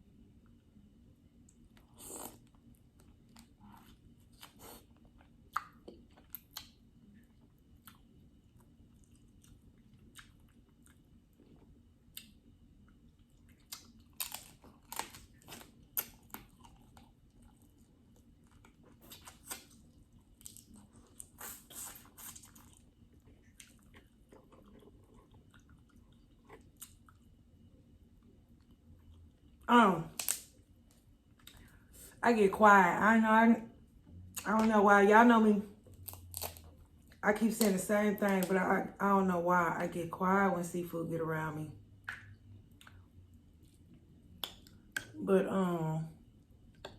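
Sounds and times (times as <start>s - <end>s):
quiet chewing and mouth sounds: 0.0s - 32.2s, 35.7s - 37.7s, 42.0s - 45.2s, 46.2s - 46.9s.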